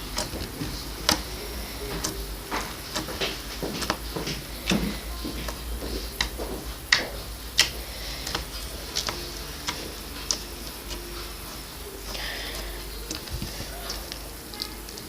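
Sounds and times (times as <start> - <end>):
slime clicking and popping: 0.0 - 15.0.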